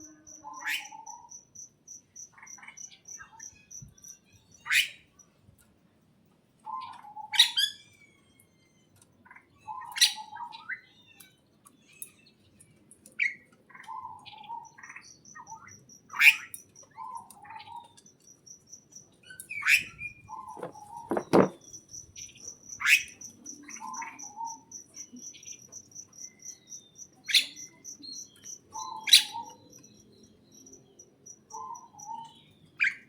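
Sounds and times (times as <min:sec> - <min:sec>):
small birds chirping: 0:00.0 - 0:05.7, 0:06.5 - 0:33.0.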